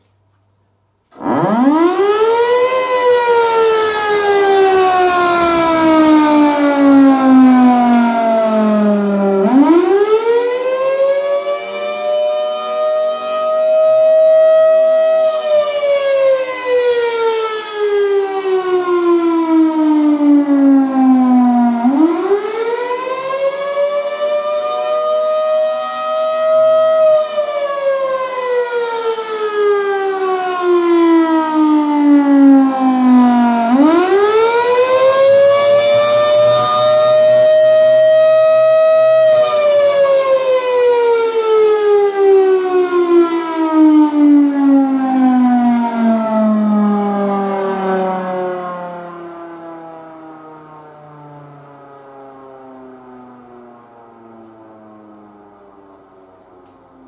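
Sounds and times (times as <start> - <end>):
tornado siren wailing: 1.1 - 57.0.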